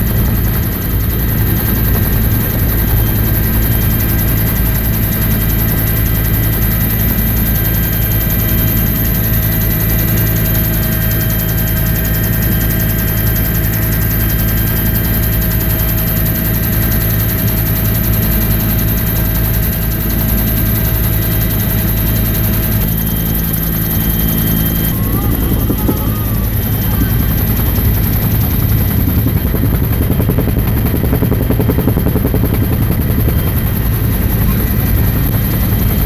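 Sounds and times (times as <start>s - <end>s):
helicopter rotor and engine drone: 0.0s - 36.0s
high steady whine: 0.0s - 36.0s.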